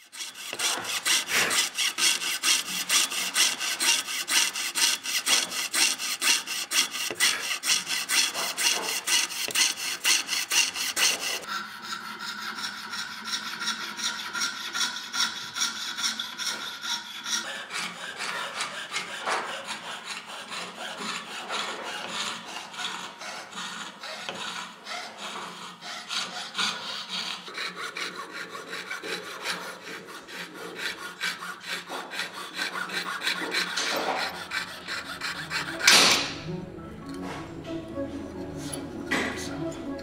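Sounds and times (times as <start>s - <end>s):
fretsaw rasping through wood: 0.0s - 40.0s.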